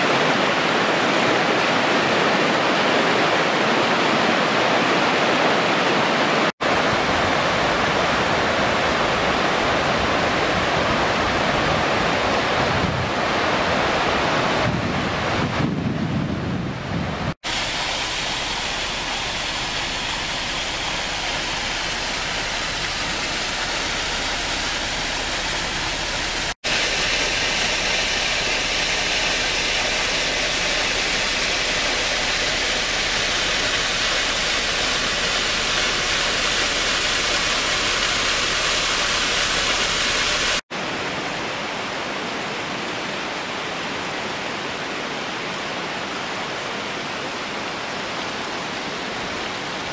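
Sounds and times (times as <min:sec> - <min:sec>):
waterfall rushing: 0:00.0 - 0:15.7, 0:16.7 - 0:49.9.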